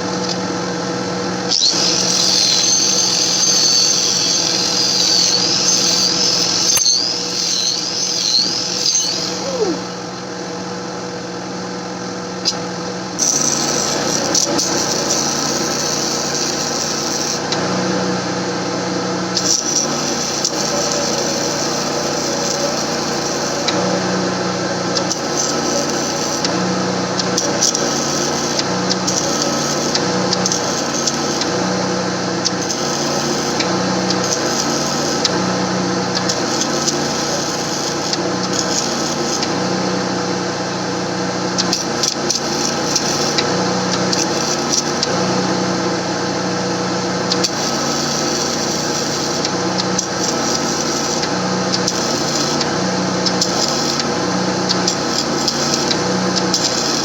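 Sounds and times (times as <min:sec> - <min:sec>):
small power tool running: 0:00.0 - 0:57.0.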